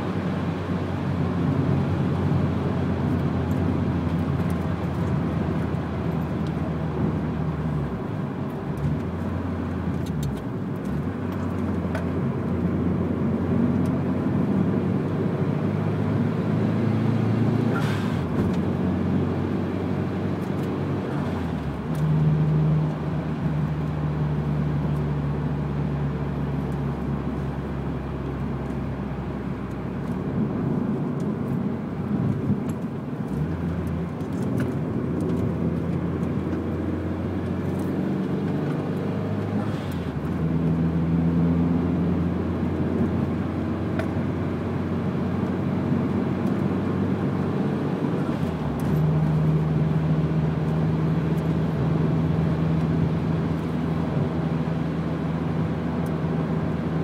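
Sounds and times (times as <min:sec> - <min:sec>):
car engine from inside cabin: 0:00.0 - 0:57.0
tyre and road noise: 0:00.0 - 0:57.0.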